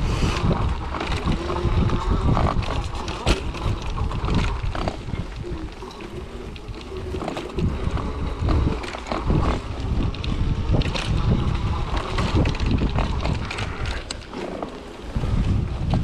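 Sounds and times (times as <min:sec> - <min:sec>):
tyre rolling over dirt trail: 0:00.0 - 0:16.0
wind buffeting microphone: 0:00.0 - 0:16.0
wheelchair frame rattling: 0:00.4 - 0:16.0.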